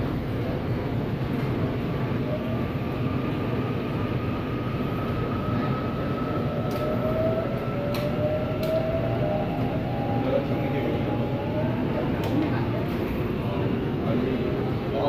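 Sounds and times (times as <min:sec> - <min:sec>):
train rumble with motor whine: 0:00.0 - 0:15.0.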